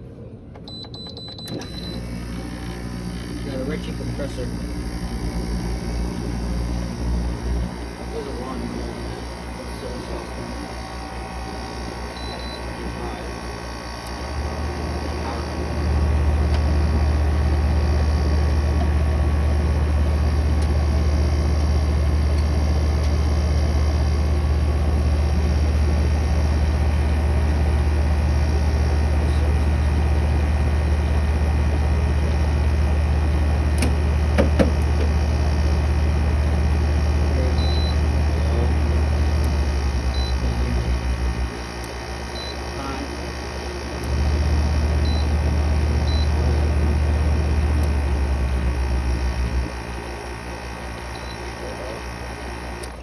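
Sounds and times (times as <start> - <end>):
air conditioner compressor humming: 0.0 - 53.0.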